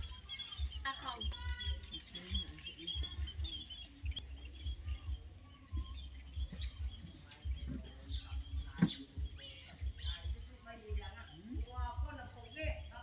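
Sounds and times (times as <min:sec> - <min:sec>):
animal chirps and squeaks: 0:00.0 - 0:13.0
rising whistled calls: 0:00.0 - 0:13.0.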